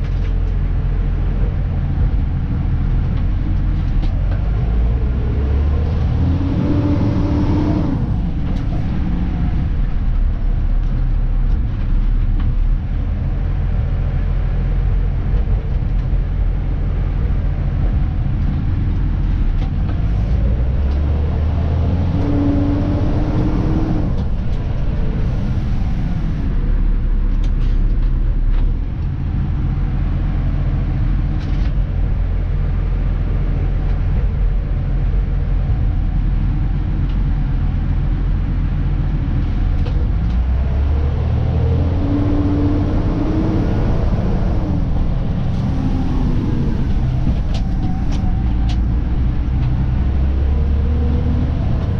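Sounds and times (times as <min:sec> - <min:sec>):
truck engine and road rumble: 0:00.0 - 0:51.9.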